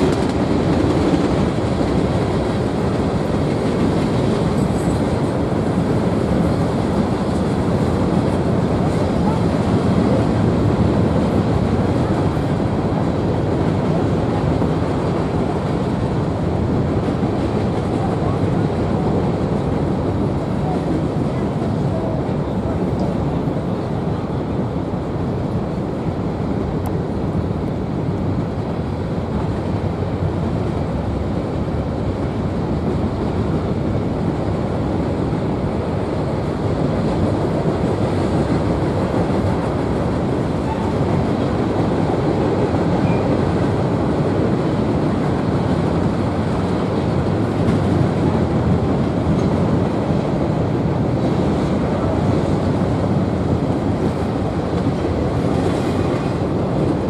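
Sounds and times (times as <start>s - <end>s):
steel wheels rolling on rails: 0.0s - 24.4s, 28.0s - 57.0s.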